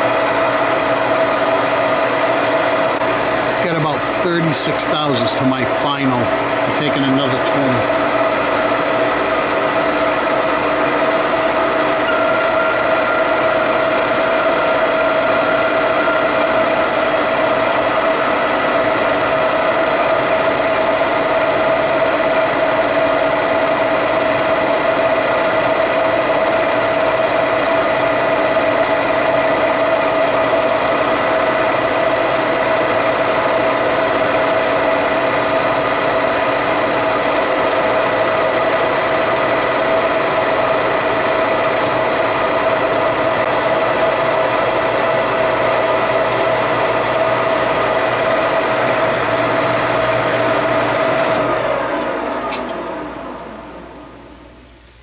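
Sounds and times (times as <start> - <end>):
mid-pitched whine: 0.0 - 24.7, 29.7 - 55.0
metal lathe running: 0.0 - 54.1.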